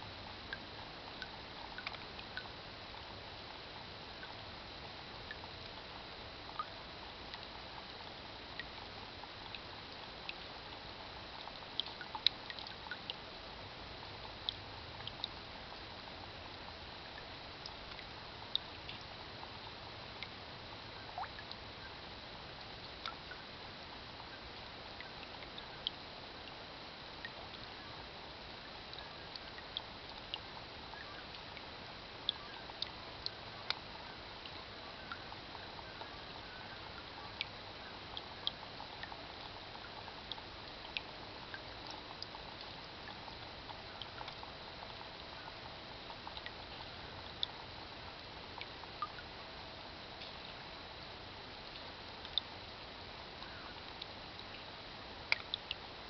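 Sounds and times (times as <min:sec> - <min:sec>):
hiss of rain: 0:00.0 - 0:56.0.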